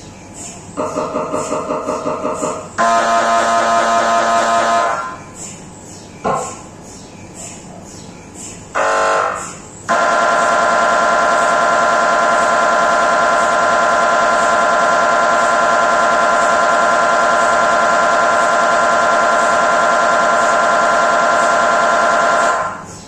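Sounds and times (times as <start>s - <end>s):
mri scanner buzzing: 0.8s - 5.4s, 8.7s - 22.9s.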